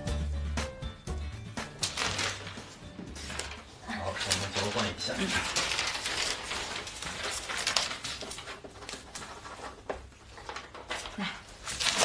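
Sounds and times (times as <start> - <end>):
paper sheets rustling: 1.6 - 12.0.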